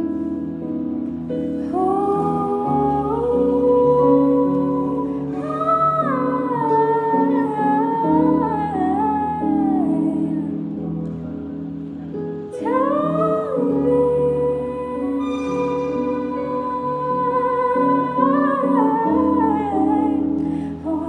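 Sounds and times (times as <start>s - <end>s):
guitar: 0.0s - 21.0s
keyboard chords: 0.0s - 21.0s
woman singing: 1.6s - 10.8s, 12.5s - 21.0s.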